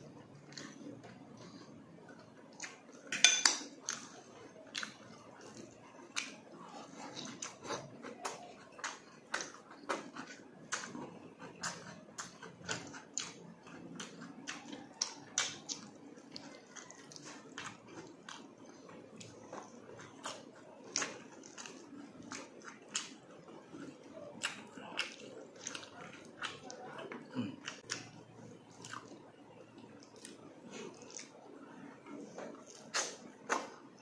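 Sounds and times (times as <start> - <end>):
wet chewing and lip smacking: 3.8 - 33.8.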